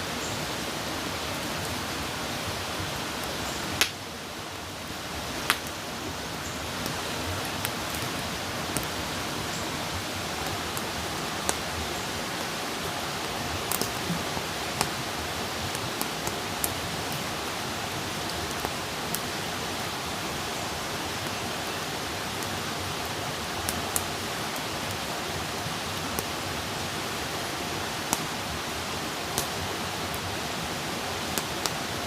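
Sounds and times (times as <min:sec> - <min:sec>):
campfire hissing: 0:00.0 - 0:32.0
fire crackling and popping: 0:03.2 - 0:26.4, 0:27.9 - 0:30.3, 0:31.2 - 0:32.0.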